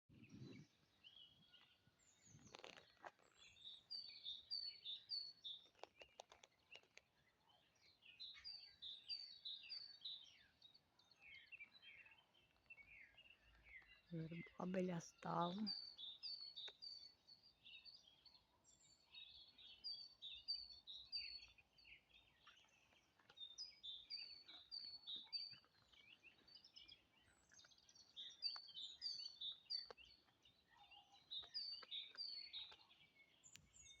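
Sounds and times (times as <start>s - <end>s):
small songbirds chirping: 0.1s - 34.0s.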